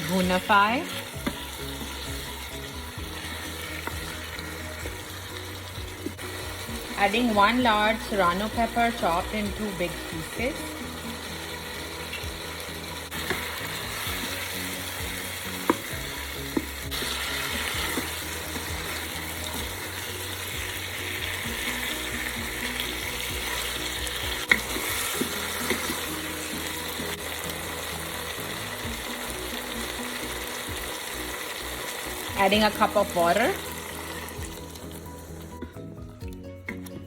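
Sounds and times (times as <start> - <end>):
curry sizzling in a pot: 0.0 - 37.0.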